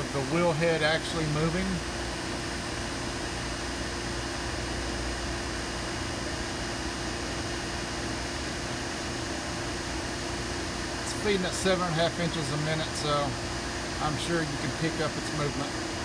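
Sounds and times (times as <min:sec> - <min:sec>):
grinding machine humming: 0:00.0 - 0:16.0.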